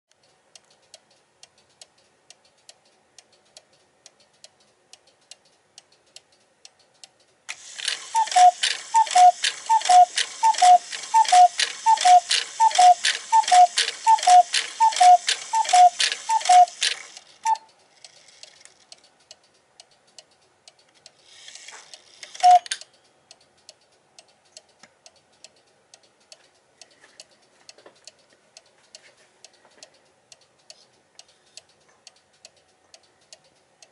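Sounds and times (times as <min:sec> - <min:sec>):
clock ticking: 0:00.1 - 0:18.2, 0:18.9 - 0:21.2, 0:21.9 - 0:33.9
whirring clock mechanism: 0:00.1 - 0:33.9.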